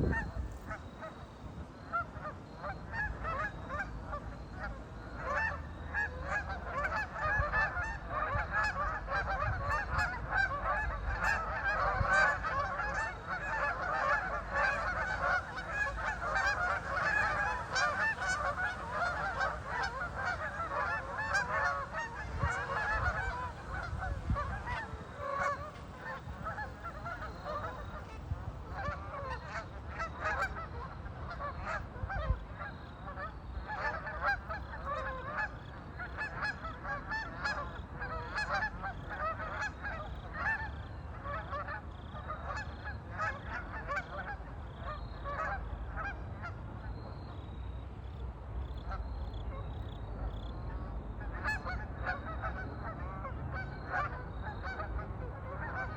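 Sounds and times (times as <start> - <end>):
waterfowl honking: 0.0 - 46.9, 48.9 - 55.9.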